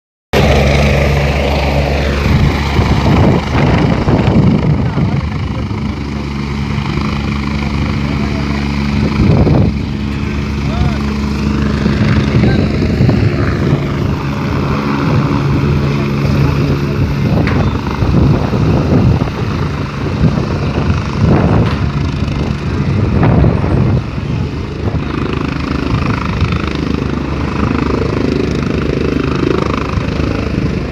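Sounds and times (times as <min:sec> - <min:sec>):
airplane engines running: 0:00.4 - 0:30.9.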